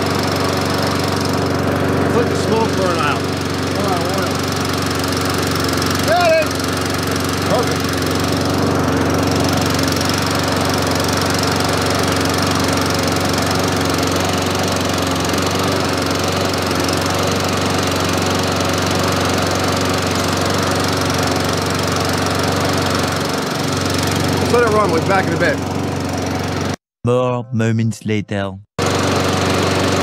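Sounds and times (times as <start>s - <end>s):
lawn mower engine running: 0.0s - 26.8s, 28.8s - 30.0s.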